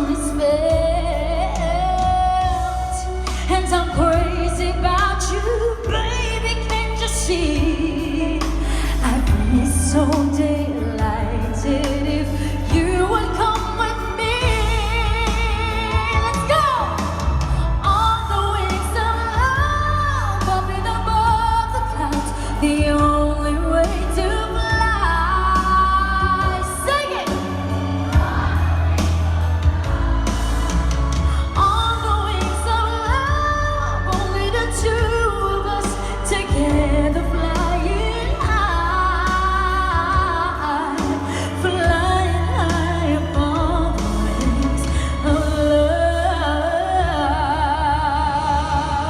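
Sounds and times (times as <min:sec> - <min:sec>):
band with heavy bass: 0:00.0 - 0:49.0.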